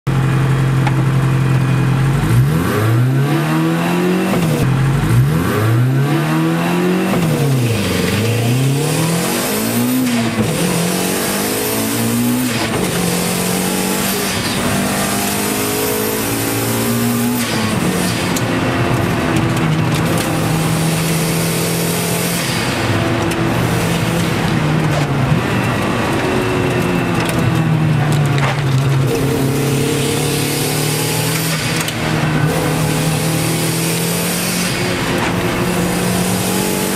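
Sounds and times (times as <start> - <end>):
turbocharged engine revving: 0.1 - 36.9.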